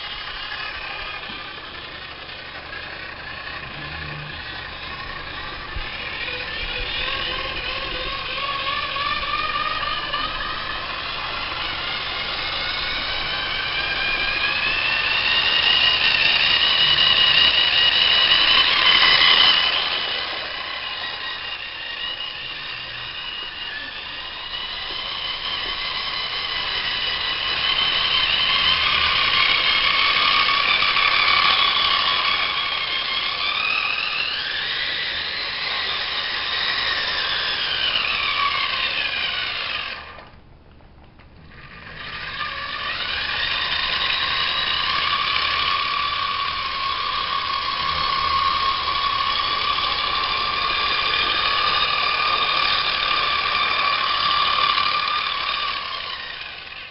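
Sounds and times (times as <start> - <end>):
small electric motor whining: 0.0 - 40.4, 41.4 - 56.9.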